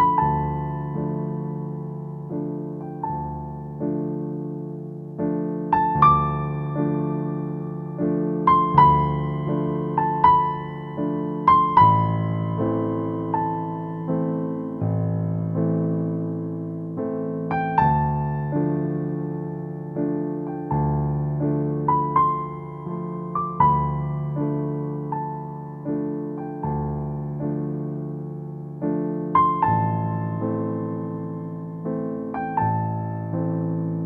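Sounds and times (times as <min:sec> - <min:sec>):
slow gentle piano music: 0:00.0 - 0:34.0.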